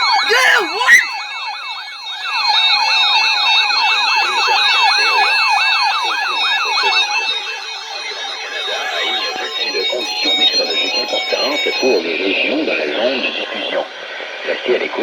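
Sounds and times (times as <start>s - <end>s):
emergency alert attention signal: 0.0s - 13.8s.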